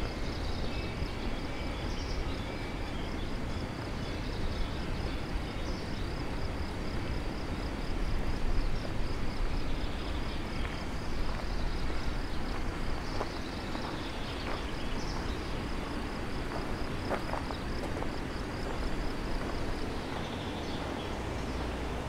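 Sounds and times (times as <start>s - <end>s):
insect chirping: 0.0s - 22.0s
steady low outdoor noise: 0.0s - 22.0s.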